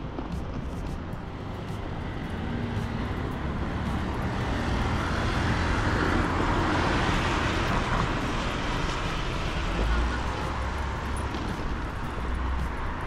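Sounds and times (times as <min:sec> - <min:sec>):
car passing: 0:01.2 - 0:13.0.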